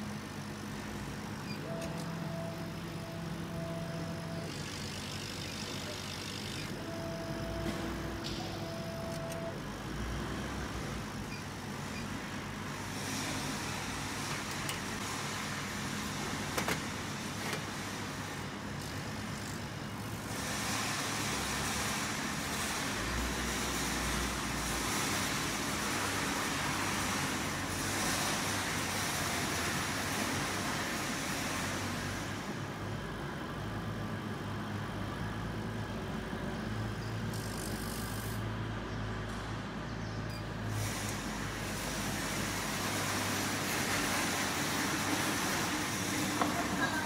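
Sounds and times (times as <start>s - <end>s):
laser cutter hum and hiss: 0.0s - 47.0s.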